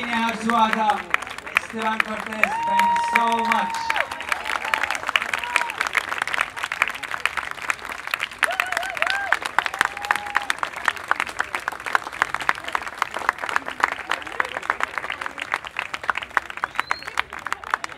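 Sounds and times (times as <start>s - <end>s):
audience applauding: 0.0s - 17.9s
crowd cheering: 0.0s - 17.9s.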